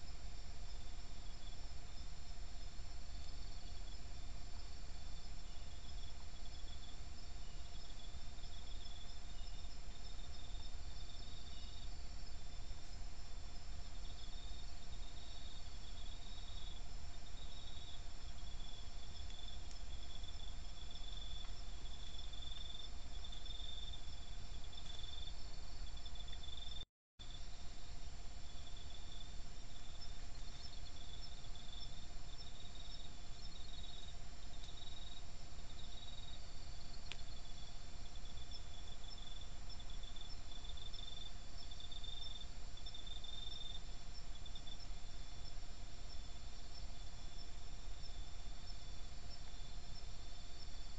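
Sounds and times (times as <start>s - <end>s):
crickets chirring: 0.0s - 50.9s
microphone hiss and rumble: 0.0s - 50.9s.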